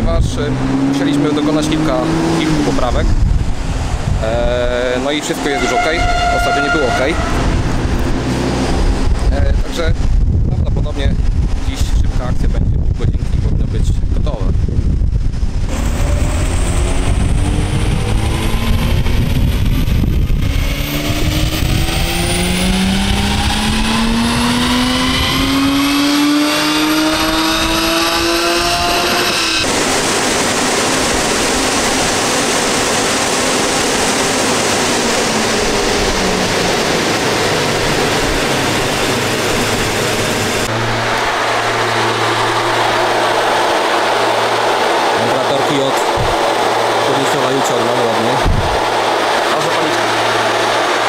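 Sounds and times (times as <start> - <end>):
engine revving up: 0.0 - 10.2, 15.3 - 51.0
cooling blower air rush: 0.0 - 51.0.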